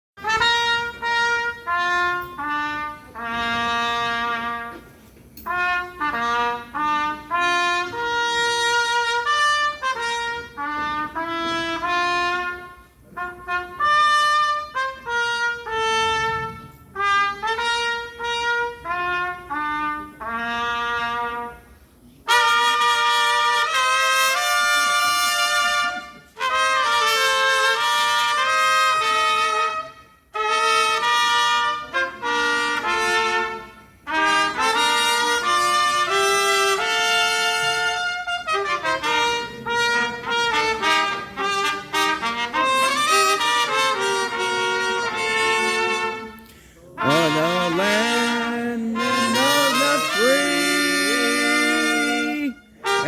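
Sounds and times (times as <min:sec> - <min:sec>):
polka band playing: 0:00.2 - 0:21.5, 0:22.3 - 0:53.0
trumpet melody: 0:00.2 - 0:53.0.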